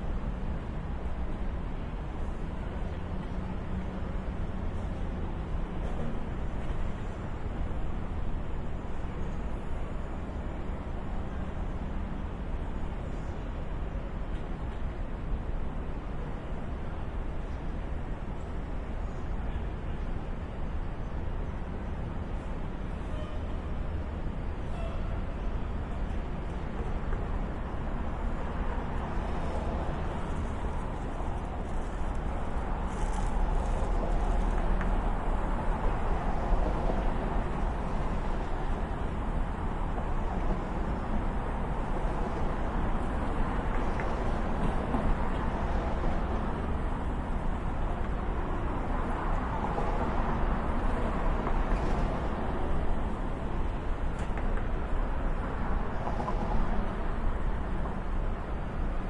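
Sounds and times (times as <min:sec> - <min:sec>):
low rumble of traffic: 0:00.0 - 0:59.0.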